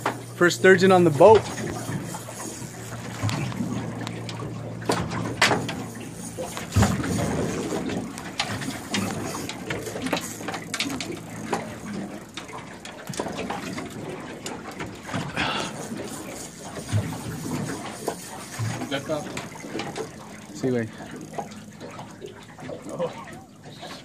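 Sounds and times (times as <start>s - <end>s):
water splashing against boat hull: 0.0s - 24.0s.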